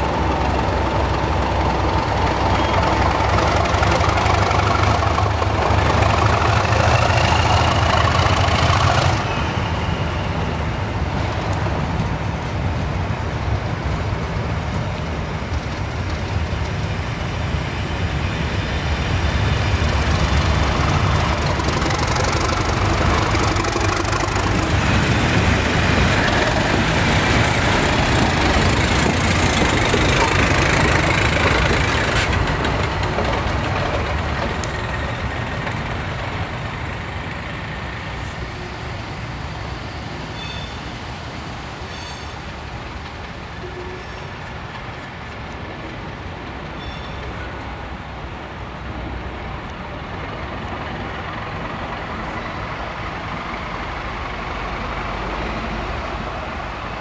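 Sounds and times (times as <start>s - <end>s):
diesel locomotive engine rumble: 0.0s - 57.0s
train coaches rolling by: 0.0s - 57.0s.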